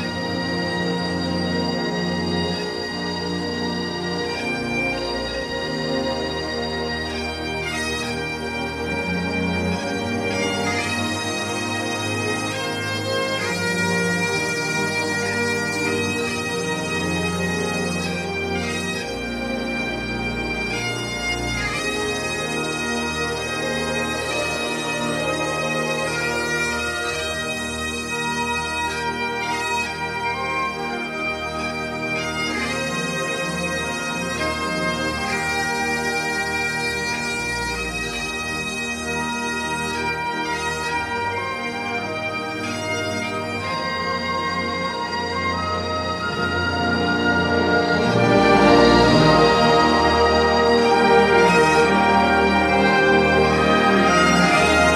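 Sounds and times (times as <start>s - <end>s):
bagpipes playing melody: 0.0s - 54.9s.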